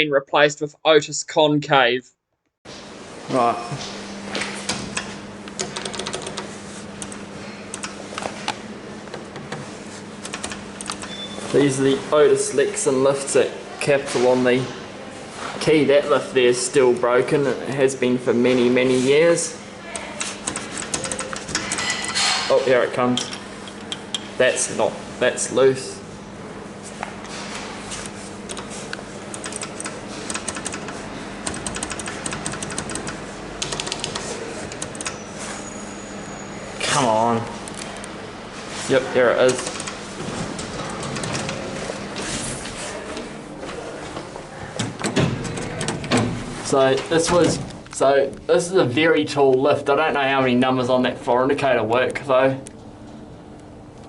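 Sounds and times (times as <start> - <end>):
steady low hum: 2.7 - 54.0.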